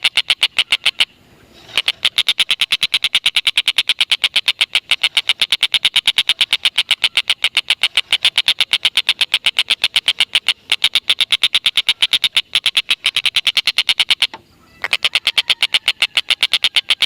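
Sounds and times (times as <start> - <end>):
kingfisher cackling call: 0.0 - 17.0.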